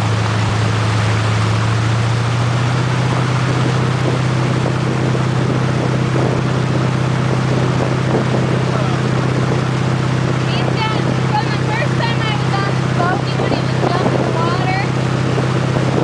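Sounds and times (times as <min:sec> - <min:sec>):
churning wake rushing: 0:00.0 - 0:16.0
motorboat engine humming: 0:00.0 - 0:16.0.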